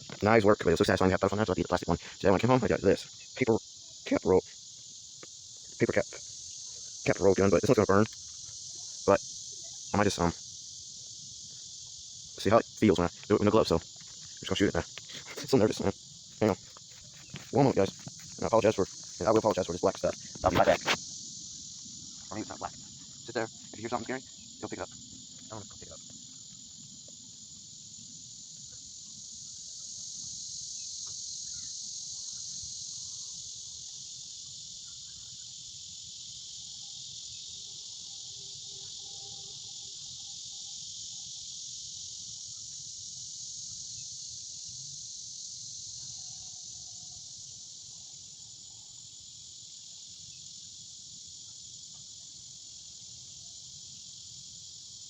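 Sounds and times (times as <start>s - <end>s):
insects shrilling: 0.0s - 55.0s.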